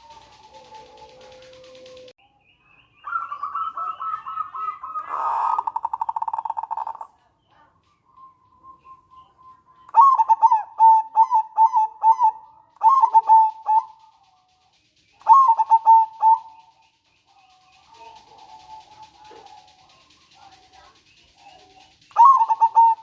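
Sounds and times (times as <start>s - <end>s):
dove stuttering coos: 0.0s - 2.1s, 3.1s - 7.2s, 9.9s - 23.0s
dove rattling trill: 0.0s - 2.2s, 3.0s - 23.0s.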